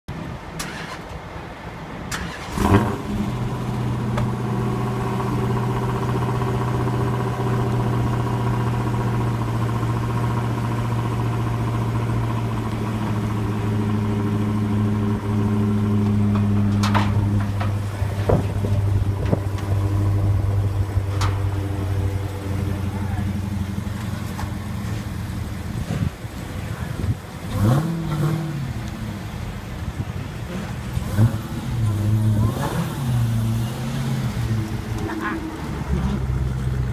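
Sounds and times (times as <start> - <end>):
car engine starting and idling: 0.2 - 36.9.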